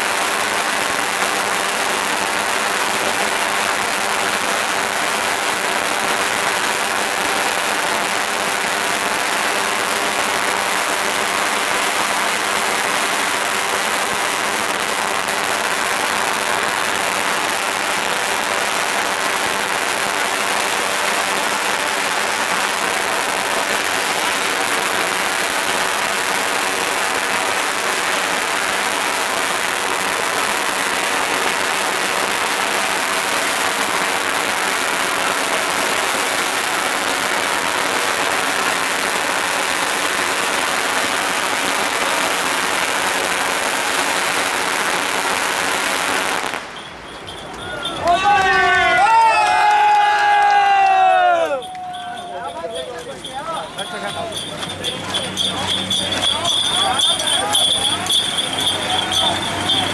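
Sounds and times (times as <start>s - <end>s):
firecrackers crackling: 0.0s - 59.9s.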